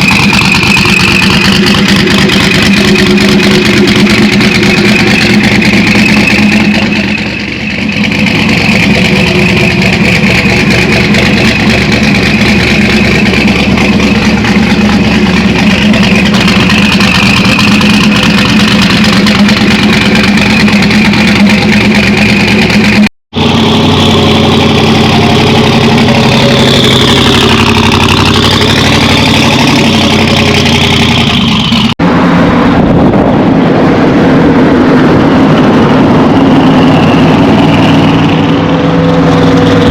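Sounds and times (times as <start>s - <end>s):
loud vehicle engine running: 0.0s - 39.9s.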